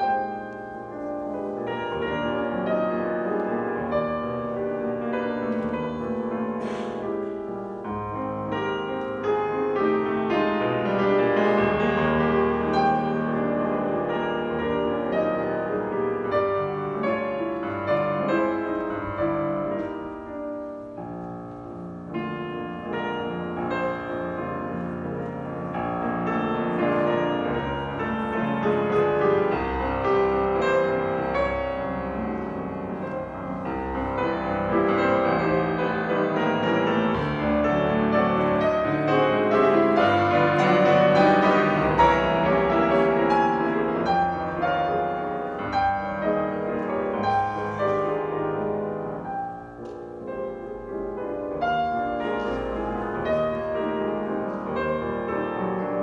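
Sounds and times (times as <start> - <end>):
classical grand piano: 0.0 - 56.0.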